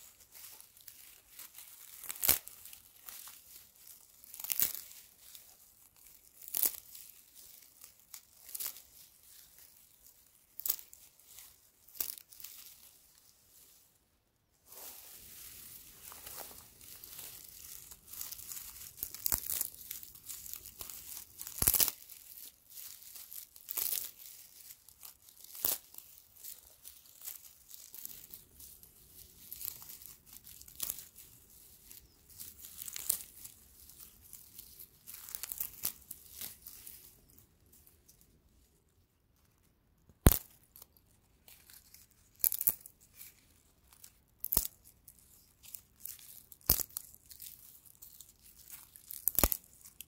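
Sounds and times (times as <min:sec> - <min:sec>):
dry straw crackling and snapping: 0:00.0 - 0:13.9, 0:14.7 - 0:38.2, 0:40.2 - 0:50.0.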